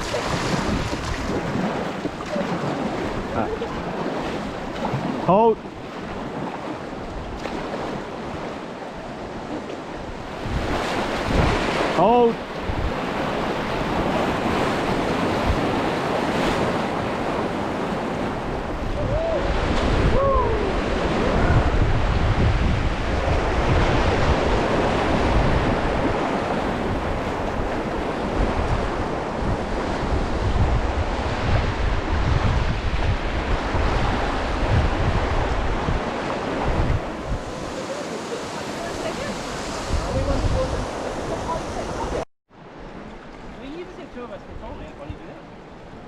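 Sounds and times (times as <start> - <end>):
whitewater rushing and splashing: 0.0 - 29.2, 33.4 - 42.3
wind buffeting microphone: 0.0 - 46.0.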